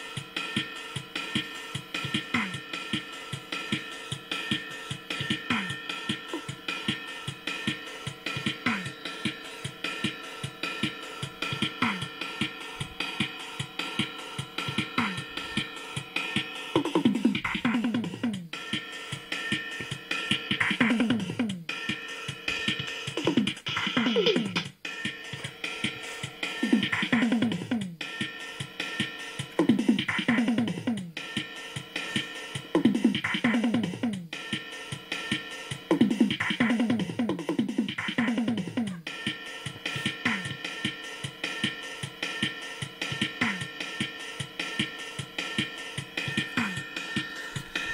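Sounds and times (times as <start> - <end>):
drum machine beat: 0.0 - 47.9.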